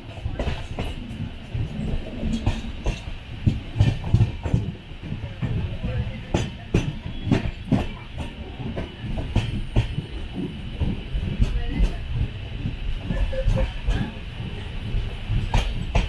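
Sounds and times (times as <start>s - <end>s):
train coach rumble and hiss: 0.0s - 16.0s
wheel clacks over rail joints: 0.0s - 16.0s.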